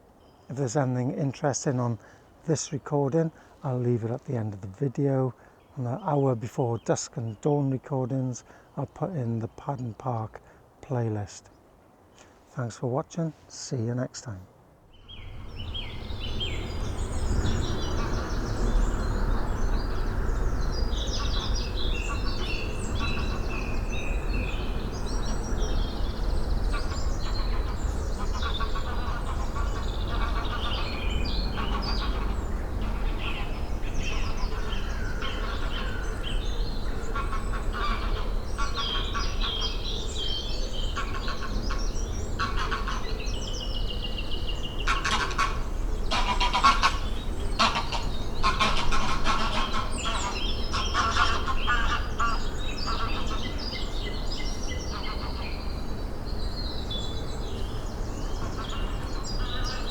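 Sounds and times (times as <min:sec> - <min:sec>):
birds chirping and trilling: 0:00.0 - 0:59.9
low rumble of background noise: 0:00.0 - 0:59.9.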